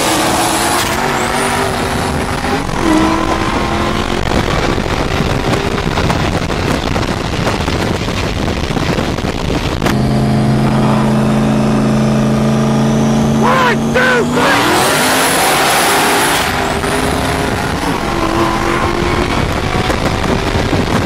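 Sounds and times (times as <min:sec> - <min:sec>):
high rising whine: 0:00.0 - 0:07.2, 0:09.3 - 0:21.0
race car engines accelerating: 0:00.0 - 0:08.5, 0:09.8 - 0:21.0
wind rush: 0:00.0 - 0:21.0.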